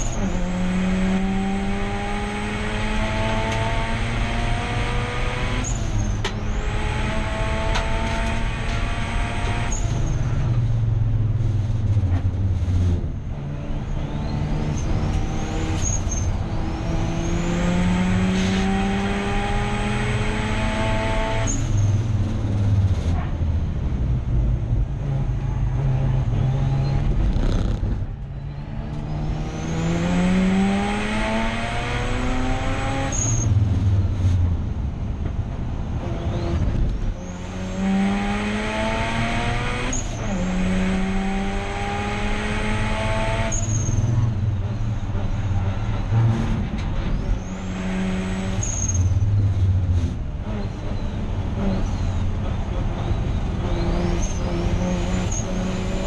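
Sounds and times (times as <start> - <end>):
rotary engine accelerating: 0.0 - 23.2, 24.5 - 34.4, 36.0 - 56.0.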